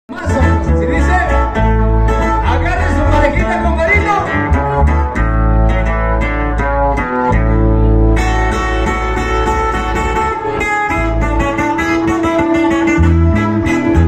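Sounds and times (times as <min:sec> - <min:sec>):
acoustic guitars playing: 0:00.1 - 0:14.0
electric bass line: 0:00.1 - 0:14.0.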